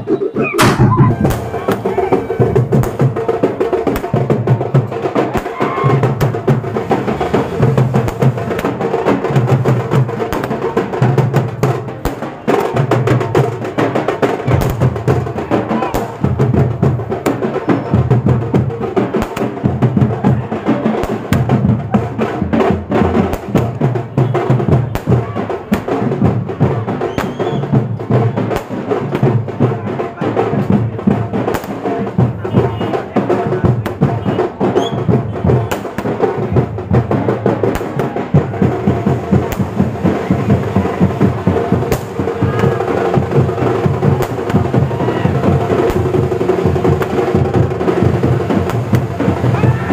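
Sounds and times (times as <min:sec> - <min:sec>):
loud drum-driven music: 0:00.0 - 0:49.9.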